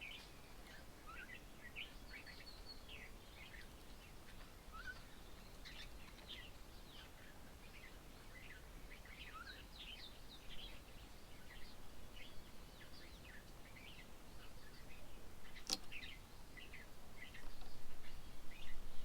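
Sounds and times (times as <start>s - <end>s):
bird chorus chirping: 0.0s - 19.0s
light background hiss: 0.0s - 19.0s.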